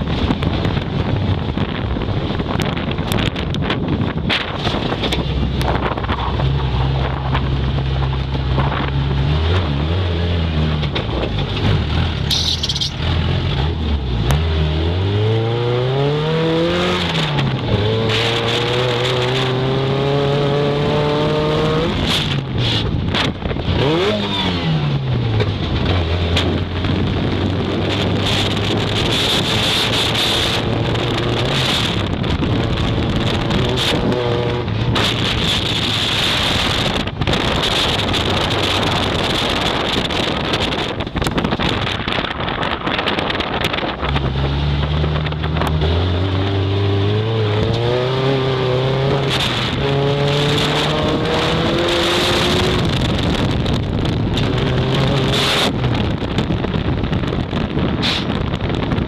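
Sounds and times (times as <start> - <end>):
wind and road noise: 0.0 - 59.0
race car engine revving: 2.2 - 59.0.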